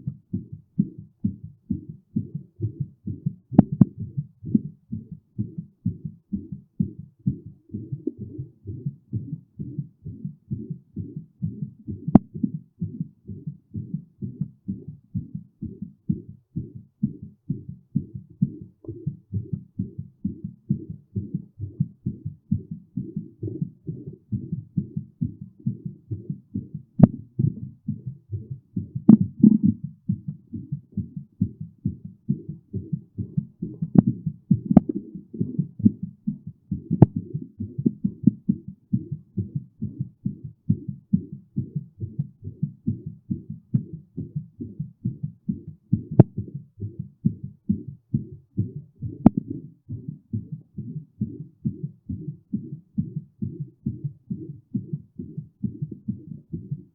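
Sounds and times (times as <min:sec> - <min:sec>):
heartbeat thumps: 0:00.0 - 0:56.9.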